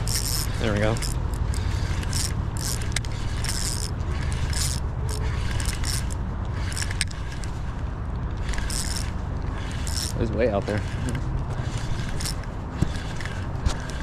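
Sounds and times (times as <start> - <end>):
fishing reel cranking: 0.0 - 14.0
steady low rumble: 0.0 - 14.0.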